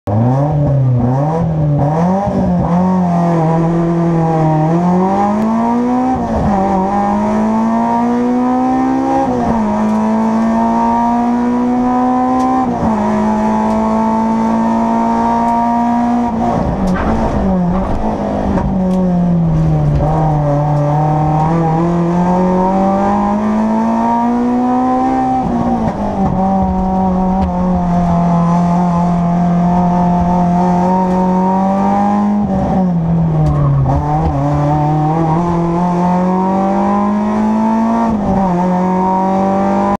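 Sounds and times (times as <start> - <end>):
race car engine accelerating: 0.1 - 39.9.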